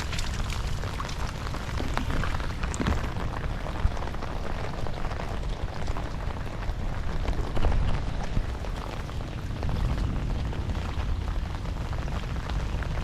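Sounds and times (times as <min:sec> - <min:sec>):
heavy rain falling: 0:00.0 - 0:13.0
low rumble: 0:00.0 - 0:13.0.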